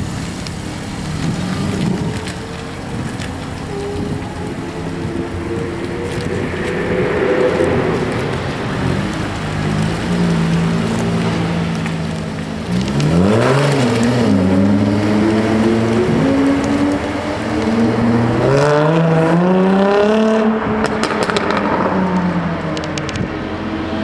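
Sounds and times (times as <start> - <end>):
exhaust crackles and pops: 0.0 - 23.6
car engine revving: 0.0 - 24.0.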